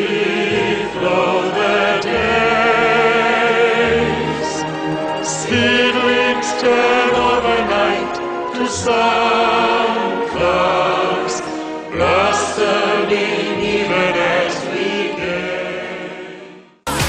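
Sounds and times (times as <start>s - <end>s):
choral music: 0.0s - 17.0s.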